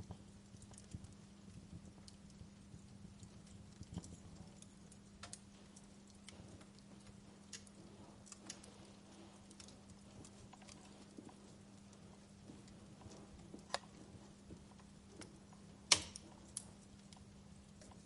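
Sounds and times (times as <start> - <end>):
fireplace crackling: 0.0 - 18.0
steady low hum: 0.0 - 18.0.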